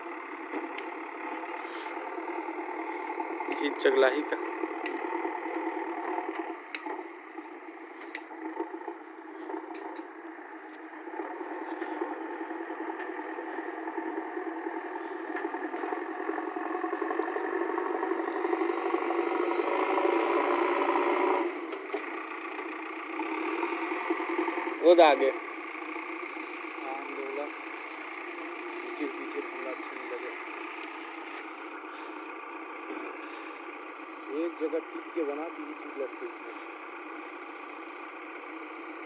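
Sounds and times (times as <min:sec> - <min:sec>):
diesel engine under load: 0:00.0 - 0:39.0.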